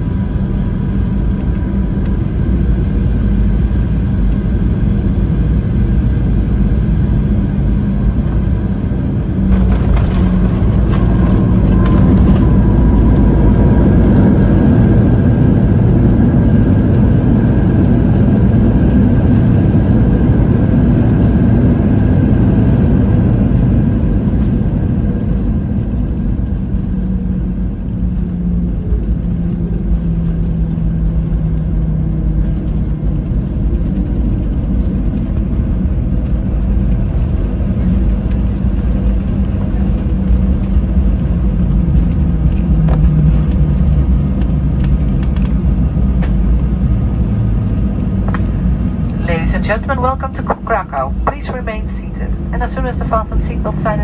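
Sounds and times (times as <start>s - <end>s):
jet engines roaring: 0.0s - 54.0s
wheels rumbling on runway: 0.0s - 54.0s.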